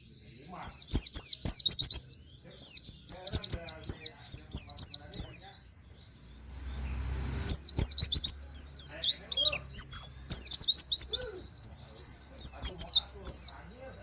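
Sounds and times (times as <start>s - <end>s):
bird singing high chirps: 0.0s - 14.0s.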